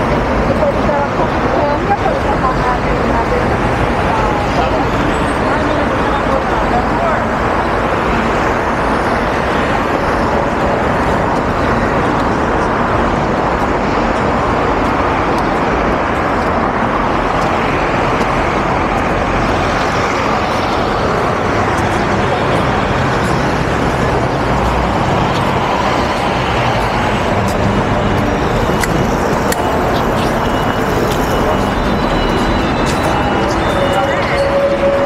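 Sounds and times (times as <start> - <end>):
car traffic: 0.0 - 35.0
voices of passers-by: 0.0 - 35.0.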